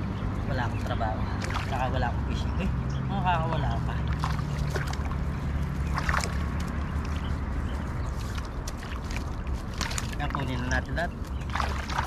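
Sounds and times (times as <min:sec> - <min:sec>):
water sloshing and dripping: 0:00.2 - 0:02.8, 0:03.5 - 0:12.0
short water splashes: 0:00.5 - 0:02.8, 0:03.5 - 0:12.0.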